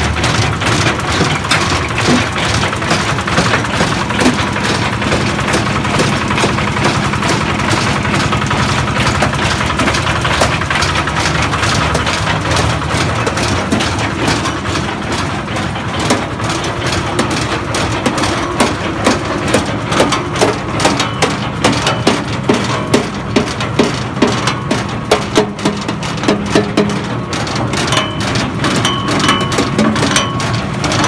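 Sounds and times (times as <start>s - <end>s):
machine mechanical drone: 0.0s - 31.0s
sharp rhythmic knocks: 0.0s - 31.0s.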